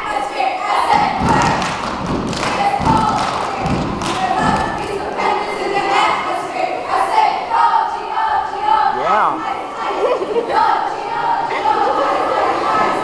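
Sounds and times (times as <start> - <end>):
group of voices singing: 2.4 - 13.0.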